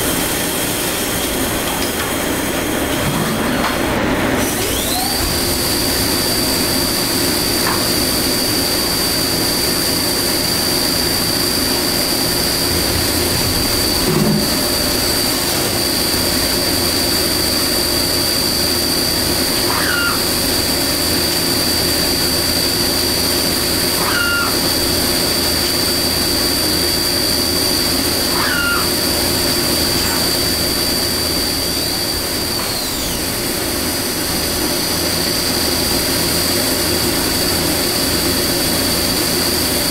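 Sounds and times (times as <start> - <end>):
high spindle whine: 3.6 - 39.9.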